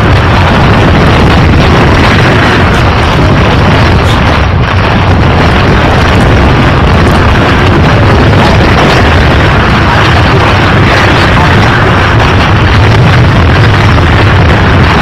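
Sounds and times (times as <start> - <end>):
overdriven rumbling noise: 0.0 - 15.0.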